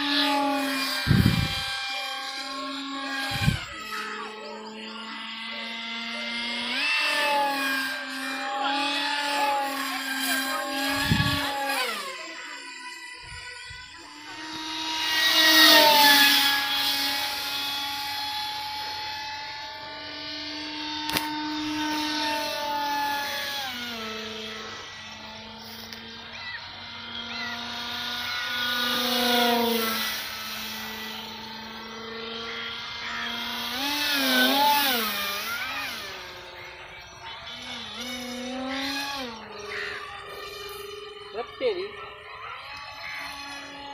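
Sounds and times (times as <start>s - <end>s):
electric motor and propeller whining: 0.0s - 43.9s.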